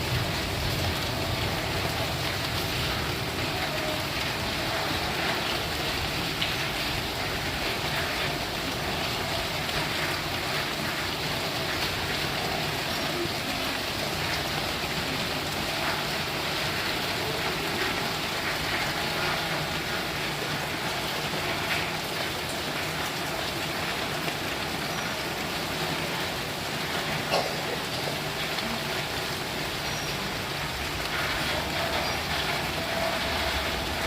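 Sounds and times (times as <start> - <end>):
raindrops ticking: 0.0 - 34.0
steady rainfall: 0.0 - 34.0.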